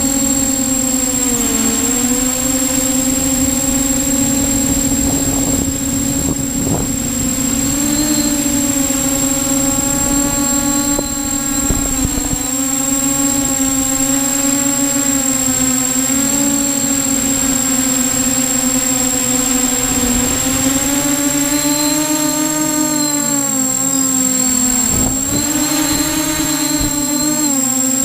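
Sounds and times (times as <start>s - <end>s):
drone motors and propellers humming: 0.0s - 28.0s.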